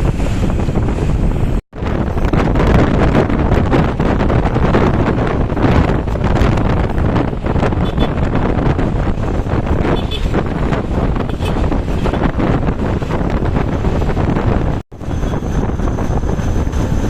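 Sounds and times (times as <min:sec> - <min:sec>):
traffic rumble: 0:00.0 - 0:17.0
wind buffeting microphone: 0:00.0 - 0:17.0.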